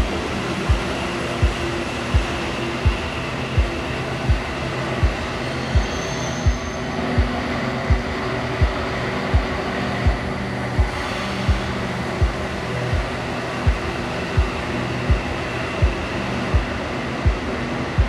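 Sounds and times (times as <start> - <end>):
low drum beat: 0.0 - 18.0
train humming: 0.0 - 18.0.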